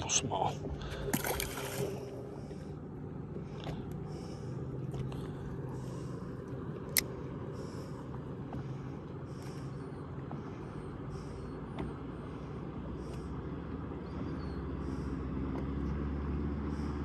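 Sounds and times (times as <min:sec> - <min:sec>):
electric trolling motor humming: 0:00.0 - 0:17.0
small waves splashing hull: 0:00.0 - 0:17.0.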